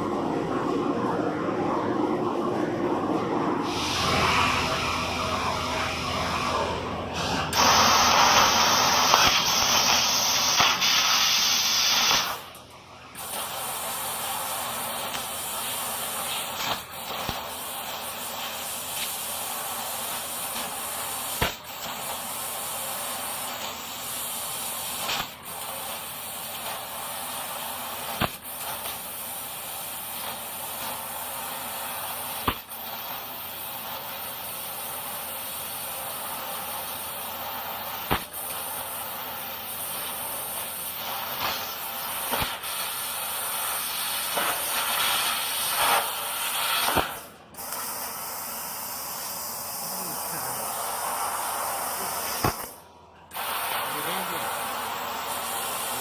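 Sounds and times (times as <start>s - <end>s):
laser cutter hissing: 3.6s - 56.0s.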